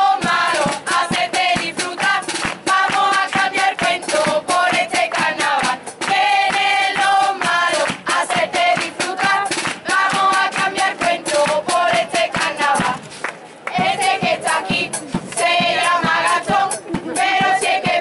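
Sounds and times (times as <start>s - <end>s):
group singing in chorus: 0.0s - 13.1s, 13.7s - 18.0s
drums beating steady rhythm: 0.0s - 18.0s.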